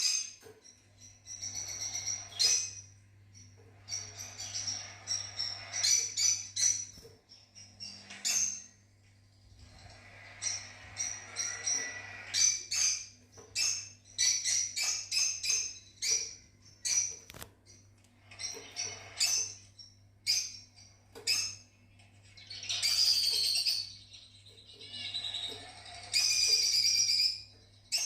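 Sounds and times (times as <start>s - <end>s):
lovebirds chirping: 0.0s - 28.0s.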